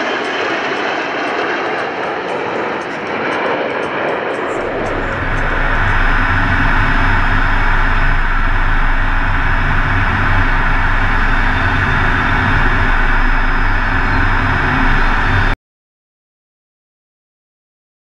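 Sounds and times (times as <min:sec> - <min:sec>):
constant low hum: 0:00.0 - 0:15.6
jet engine and airflow noise: 0:00.0 - 0:15.6.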